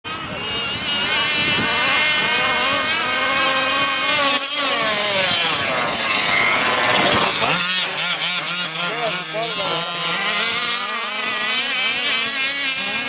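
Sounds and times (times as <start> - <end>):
small two-stroke engine revving: 0.0 - 13.0.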